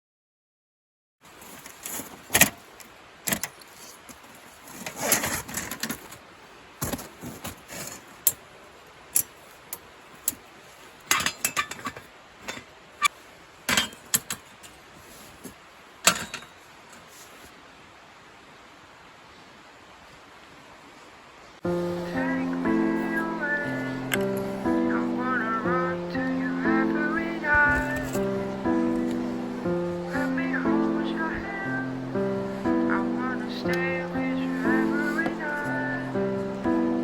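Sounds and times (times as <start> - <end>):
rustling: 1.2 - 8.4, 9.2 - 17.6, 21.7 - 37.0.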